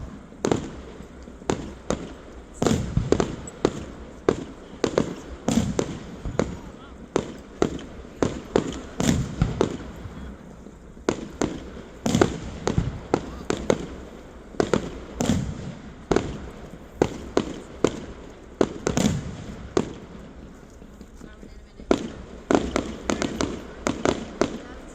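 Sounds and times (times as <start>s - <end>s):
deep fireworks booms: 0.0s - 24.9s
fireworks sharp bangs: 0.0s - 24.9s.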